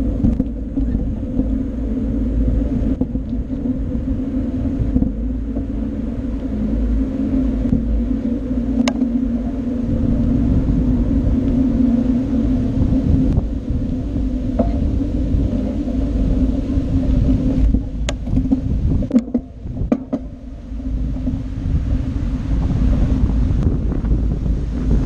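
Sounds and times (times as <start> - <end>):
wind and road rumble: 0.0 - 25.0.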